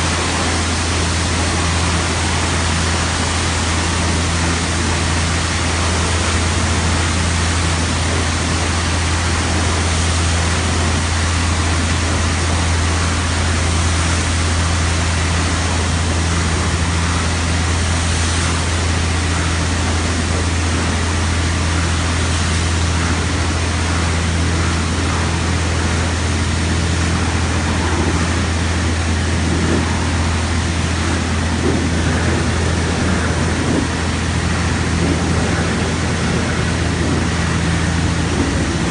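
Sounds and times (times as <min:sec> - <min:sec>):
car wash machine rushing: 0:00.0 - 0:38.9
low hum: 0:00.0 - 0:38.9.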